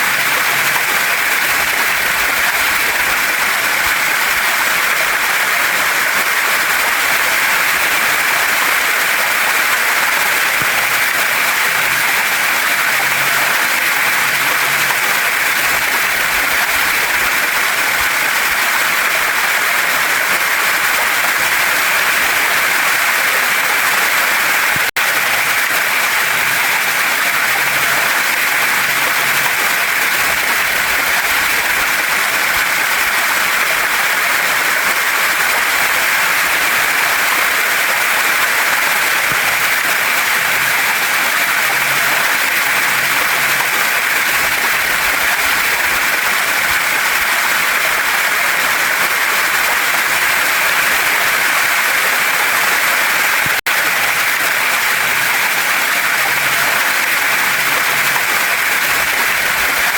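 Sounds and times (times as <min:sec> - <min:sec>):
rushing water of waterfall: 0:00.0 - 0:59.9.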